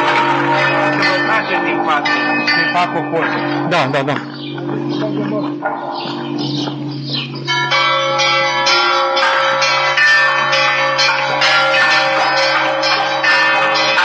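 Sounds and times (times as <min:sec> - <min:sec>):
church bells pealing: 0:00.0 - 0:14.0.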